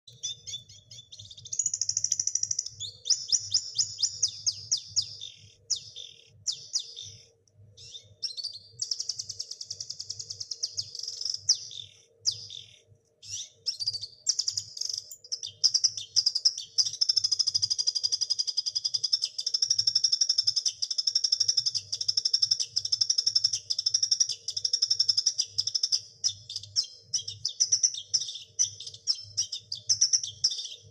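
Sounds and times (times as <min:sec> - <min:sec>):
songbird singing trills and chirps: 0:00.0 - 0:30.9.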